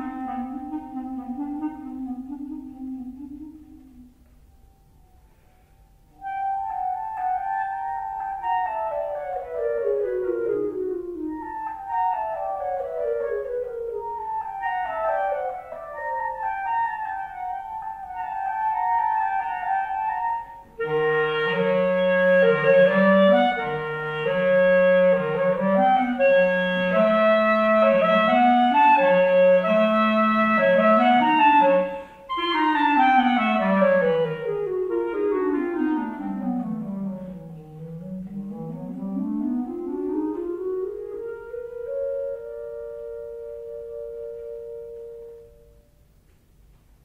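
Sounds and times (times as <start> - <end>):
clarinet duet: 0.0 - 46.4.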